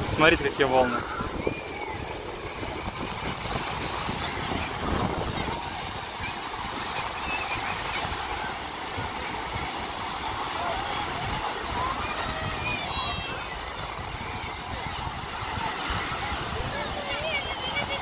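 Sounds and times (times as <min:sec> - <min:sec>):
surf breaking on a beach: 0:00.0 - 0:18.0
wind rumbling on microphone: 0:00.0 - 0:18.0.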